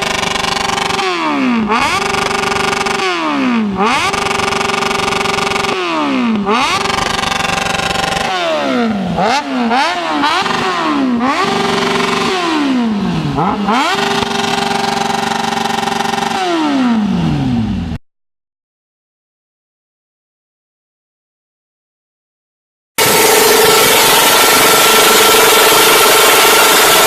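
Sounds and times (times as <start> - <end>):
motorcycle engine revving: 0.0 - 18.0, 23.0 - 27.0.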